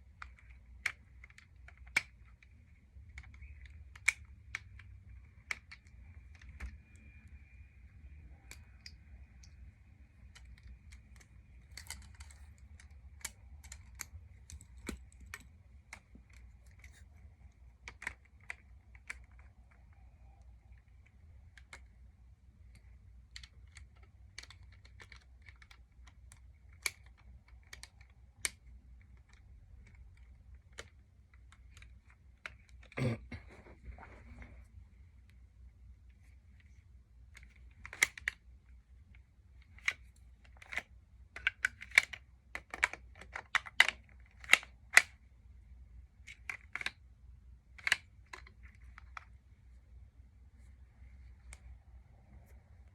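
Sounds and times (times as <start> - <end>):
plastic pieces clicking: 0.0 - 22.0, 22.6 - 33.2, 36.2 - 45.3, 46.2 - 47.0, 47.7 - 49.4
faint low hum: 0.0 - 52.9.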